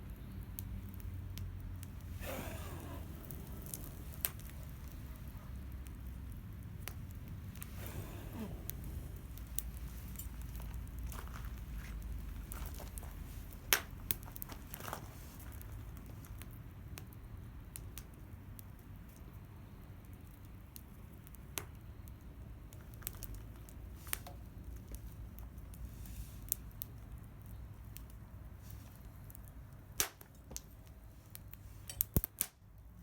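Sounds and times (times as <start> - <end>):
bonfire pops and crackles: 0.0 - 33.0
fire low rumble: 0.0 - 33.0.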